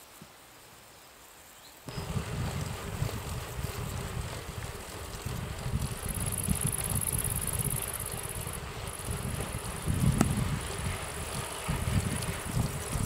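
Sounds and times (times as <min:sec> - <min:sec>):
high steady hiss: 0:00.0 - 0:13.0
bicycle tyres on asphalt: 0:01.8 - 0:13.0
wind buffeting microphone: 0:01.9 - 0:13.0.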